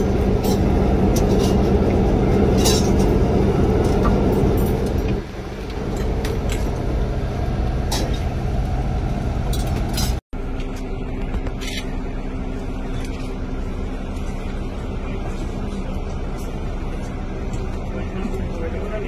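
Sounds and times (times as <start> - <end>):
vehicle cabin hum: 0.0 - 19.0.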